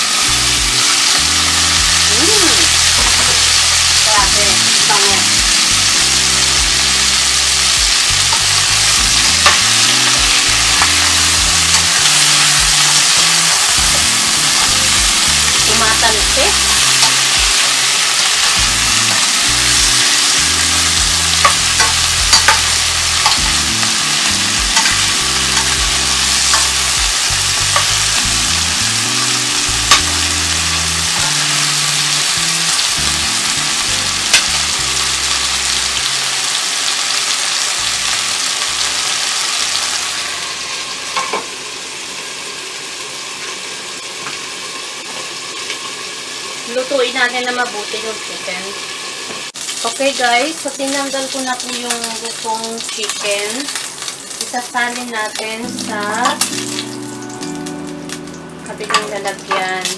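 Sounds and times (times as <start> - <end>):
chicken sizzling in oil: 0.0 - 59.9.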